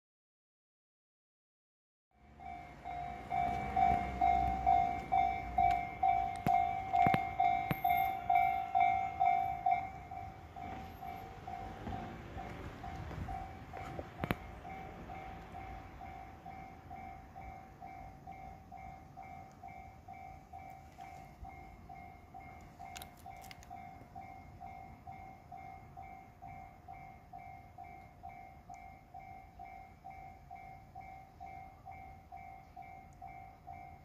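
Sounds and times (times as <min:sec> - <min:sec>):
level crossing warning bell: 0:02.2 - 0:34.0.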